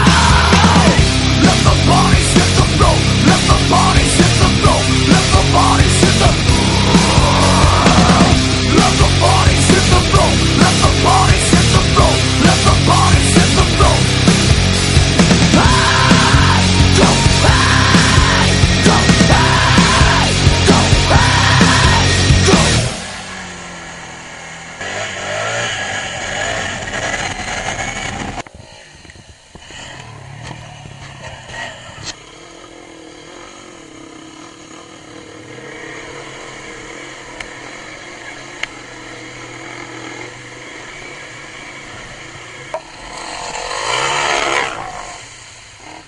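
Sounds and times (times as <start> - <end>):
atv engines running: 0.0 - 46.0.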